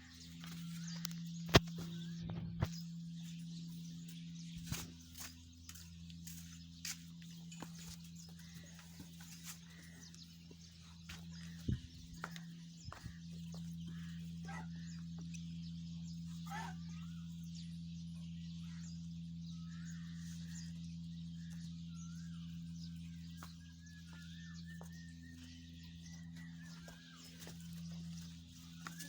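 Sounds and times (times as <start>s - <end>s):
low electrical hum: 0.0s - 29.0s
small birds chirping: 0.0s - 29.0s.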